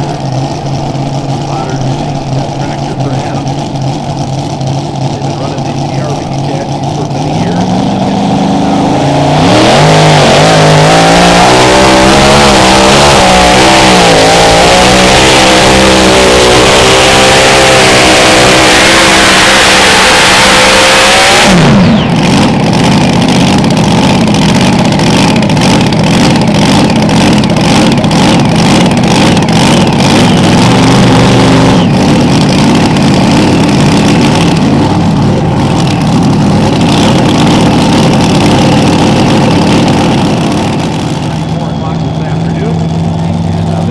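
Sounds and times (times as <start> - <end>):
tractor engine at full throttle: 0.0 - 43.9.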